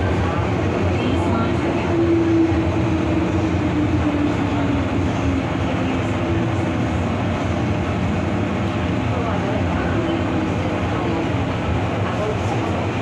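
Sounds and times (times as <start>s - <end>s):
train motor humming: 0.0s - 13.0s
train wheels rumbling on rails: 0.0s - 13.0s.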